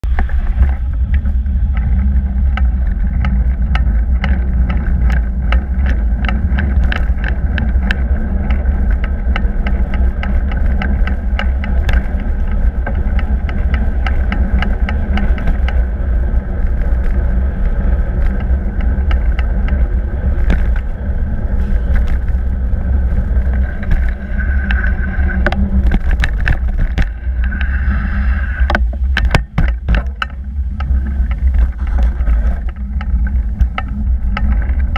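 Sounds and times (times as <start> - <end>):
bike clicking and rattling: 0.0 - 34.9
wind buffeting microphone: 0.0 - 34.9.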